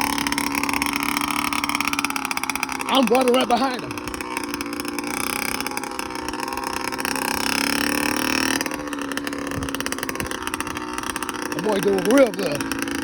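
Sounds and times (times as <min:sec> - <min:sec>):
buzzy two-stroke engine running: 0:00.0 - 0:13.0.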